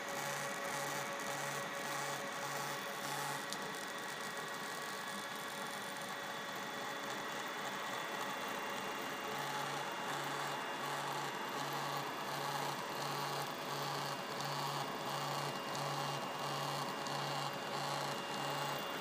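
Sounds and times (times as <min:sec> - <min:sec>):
printer whirring and hissing: 0:00.0 - 0:19.0
rhythmic low motor hum: 0:00.0 - 0:19.0.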